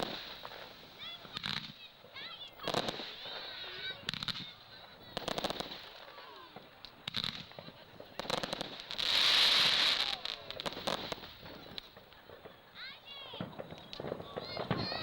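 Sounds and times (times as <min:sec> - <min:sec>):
firework hissing rush: 0:00.0 - 0:15.0
fireworks crackling pops: 0:00.0 - 0:15.0.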